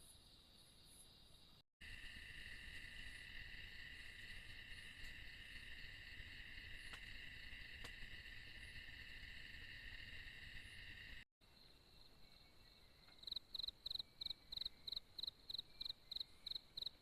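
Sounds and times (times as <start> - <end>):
forest insects trilling: 0.8 - 17.0.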